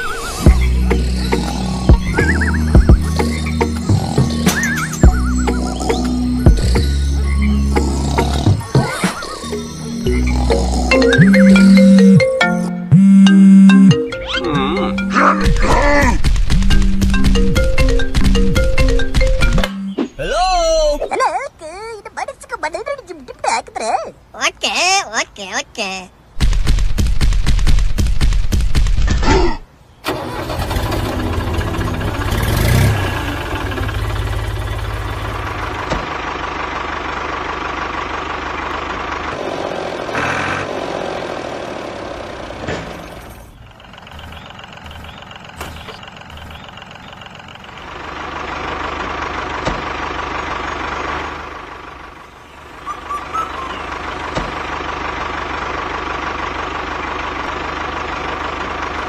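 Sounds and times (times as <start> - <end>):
tractor engine idling: 0.0 - 21.4, 30.0 - 59.0.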